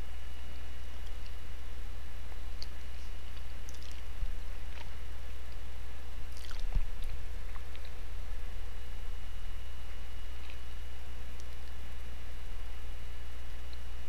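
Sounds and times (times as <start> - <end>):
electrical hum: 0.0 - 14.0
faint high whine: 0.0 - 14.0.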